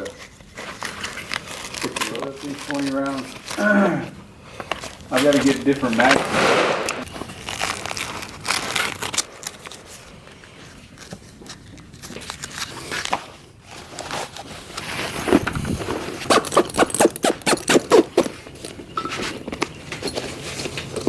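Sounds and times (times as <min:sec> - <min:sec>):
handling rustle: 0:00.0 - 0:03.6, 0:04.5 - 0:21.0.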